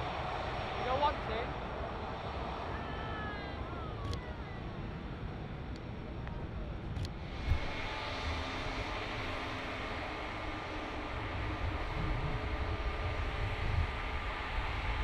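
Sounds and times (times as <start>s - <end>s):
jet engine whine: 0.0s - 15.0s
jet engines rumbling: 0.0s - 15.0s
low buffeting rumble: 0.0s - 15.0s.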